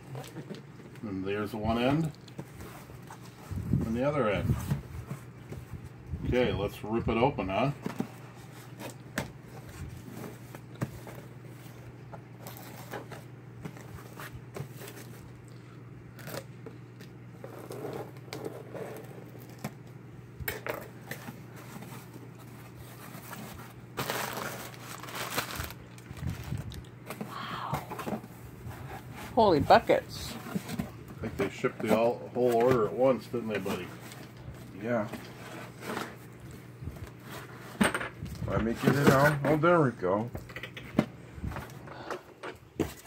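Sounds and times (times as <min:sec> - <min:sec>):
cardboard rustling and crinkling: 0:00.0 - 0:06.0, 0:07.5 - 0:15.4, 0:17.4 - 0:20.0, 0:20.8 - 0:39.7, 0:42.6 - 0:43.0.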